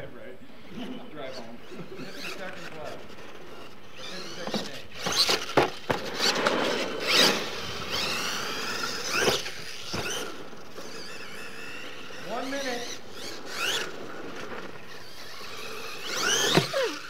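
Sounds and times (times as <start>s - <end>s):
toy truck motor whining: 1.1s - 17.0s
tyres scrabbling on dirt: 2.1s - 17.0s.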